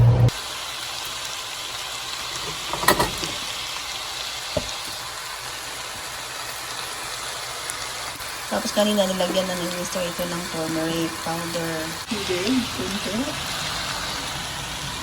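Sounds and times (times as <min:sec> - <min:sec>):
rice sizzling in a pot: 0:00.3 - 0:15.0.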